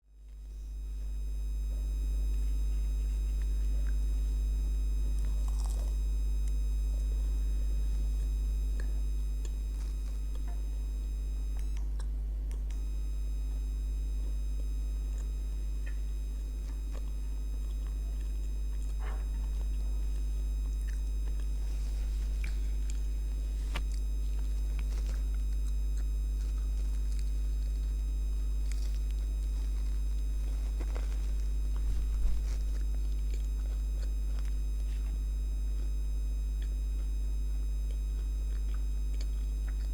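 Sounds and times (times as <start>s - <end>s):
low mains hum: 0.0s - 39.9s
crunching of eating donuts: 0.1s - 39.9s
thin high buzz: 0.2s - 12.0s, 12.7s - 39.9s.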